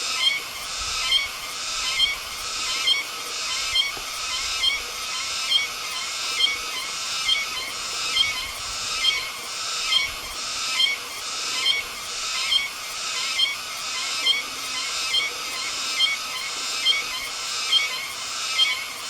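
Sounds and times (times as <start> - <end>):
cicada buzzing: 0.0 - 19.0.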